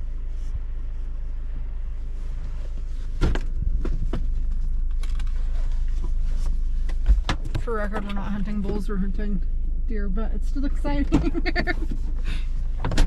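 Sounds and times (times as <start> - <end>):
vehicle rumble from inside cab: 0.0 - 13.0.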